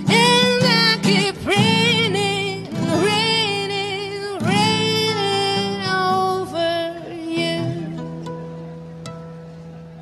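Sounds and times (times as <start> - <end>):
woman singing: 0.0 - 8.4
strummed acoustic guitar: 0.0 - 10.0.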